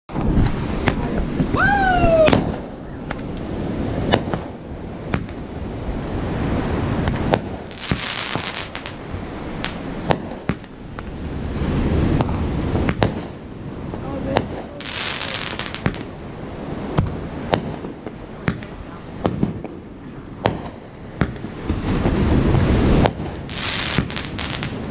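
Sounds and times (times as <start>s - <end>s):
fireworks bangs: 2.1s - 3.2s, 3.8s - 24.9s.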